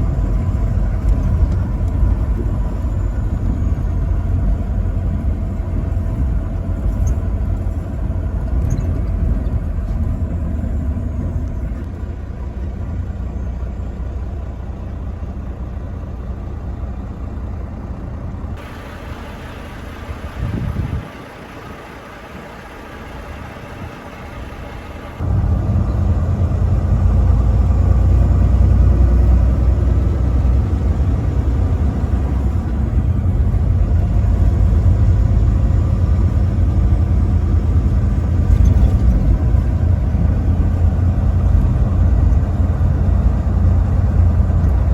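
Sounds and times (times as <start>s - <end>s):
truck driving rumble: 0.0s - 44.9s.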